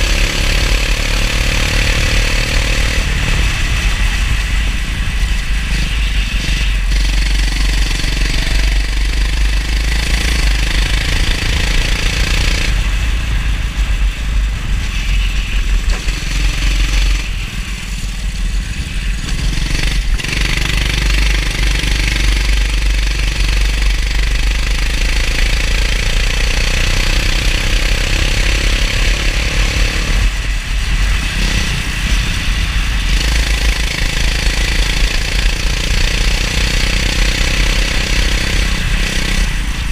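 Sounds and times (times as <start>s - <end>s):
deep rumble: 0.0s - 39.9s
go-kart engine running: 0.0s - 39.9s.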